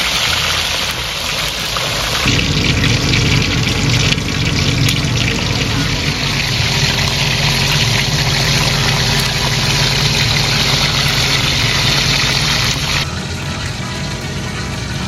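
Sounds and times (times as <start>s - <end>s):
oil sizzling loudly: 0.0s - 15.0s
low steady hum: 2.2s - 15.0s.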